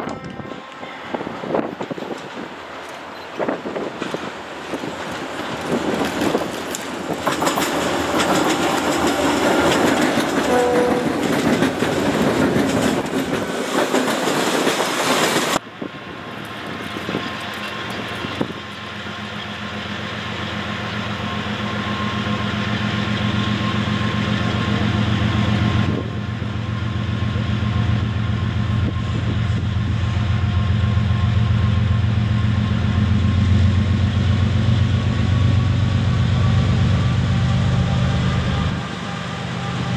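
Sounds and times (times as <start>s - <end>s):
diesel locomotives droning: 0.0s - 39.9s
freight train passing: 0.0s - 39.9s.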